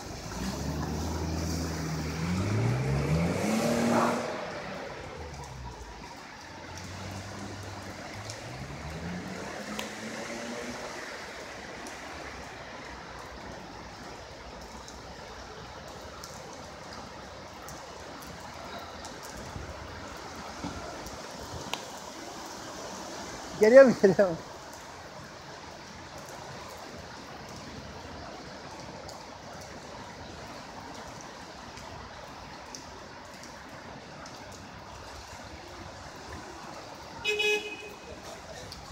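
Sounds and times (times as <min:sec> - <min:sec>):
rain runoff rushing: 0:00.0 - 0:38.9.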